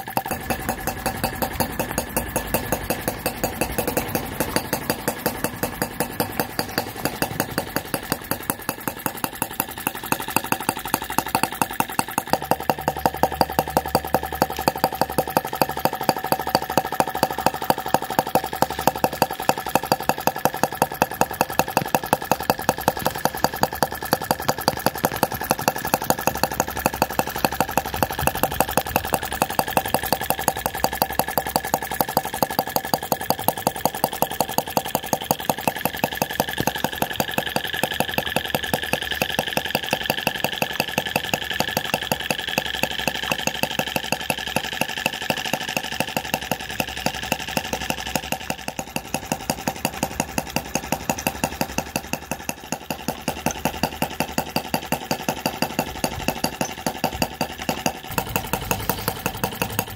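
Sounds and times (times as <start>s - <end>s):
model engine running: 0.0s - 59.9s.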